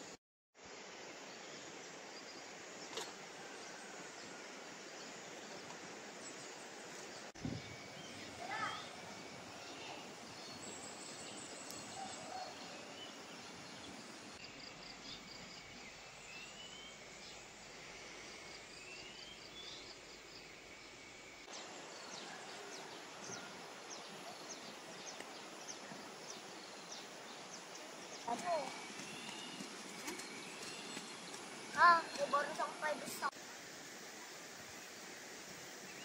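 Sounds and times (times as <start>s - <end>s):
steady hiss: 0.0s - 36.0s
bird and insect chirps: 0.7s - 36.0s.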